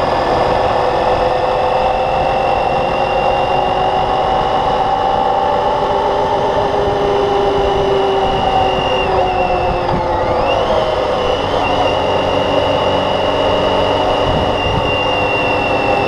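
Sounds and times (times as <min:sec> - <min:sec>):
motorcycle engine running: 0:00.0 - 0:16.0
road rumble: 0:00.0 - 0:16.0
wind on microphone: 0:00.0 - 0:16.0.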